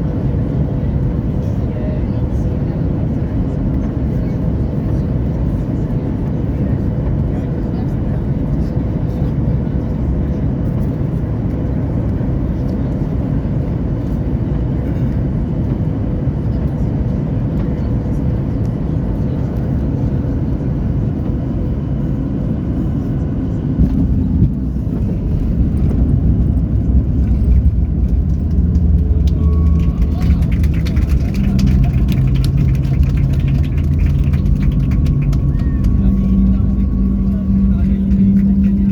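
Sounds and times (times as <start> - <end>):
engine and airflow rumble: 0.0 - 38.9.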